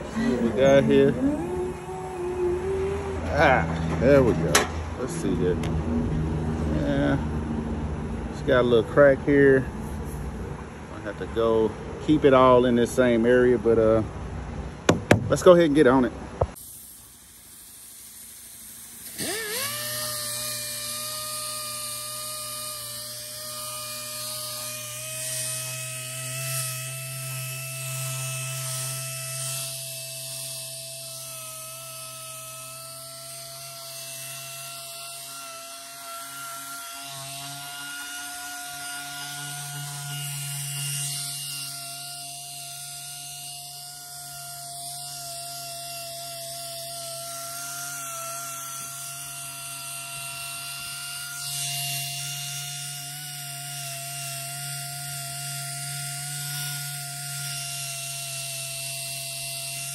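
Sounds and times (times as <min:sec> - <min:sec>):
power tool motor whining: 0:00.0 - 0:13.9, 0:14.8 - 0:59.9.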